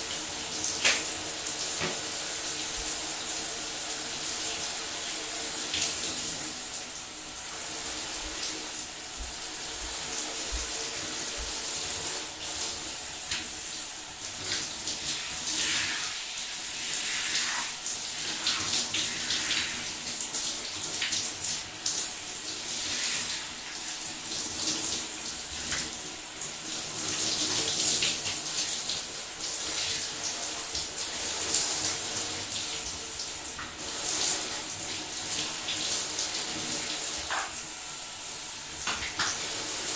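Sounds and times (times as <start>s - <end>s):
shower spray splashing on body: 0.0s - 37.6s, 38.8s - 39.9s.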